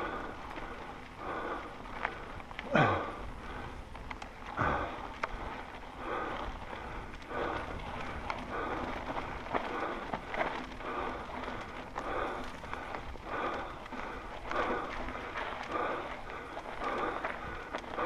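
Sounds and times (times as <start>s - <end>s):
tyres crunching over dirt: 0.0s - 18.0s
wind rumble on camera: 0.0s - 18.0s.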